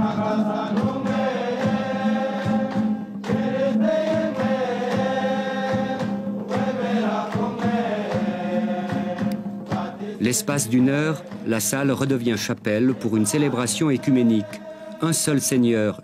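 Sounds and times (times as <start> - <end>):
hand clapping: 0.0 - 13.4
strummed acoustic guitars: 0.0 - 15.4
group singing: 0.0 - 16.0.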